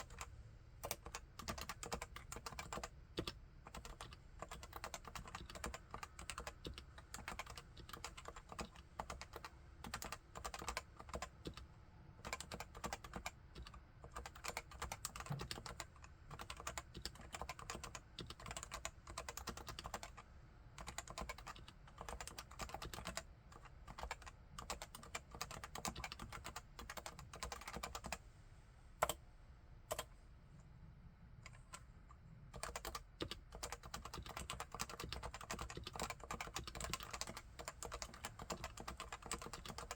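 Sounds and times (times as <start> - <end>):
soft keyboard typing: 0.0 - 28.2, 29.0 - 29.2, 29.8 - 30.2, 31.4 - 39.9.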